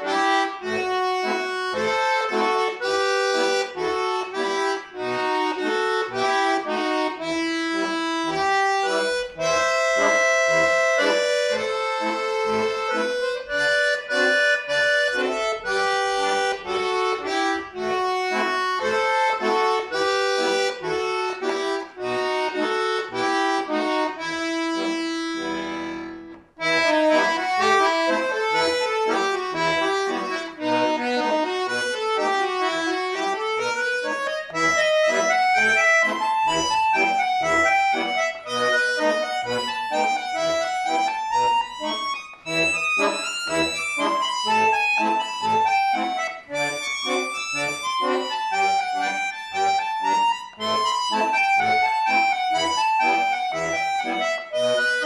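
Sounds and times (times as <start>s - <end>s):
solo button accordion folk music: 0.0s - 55.0s.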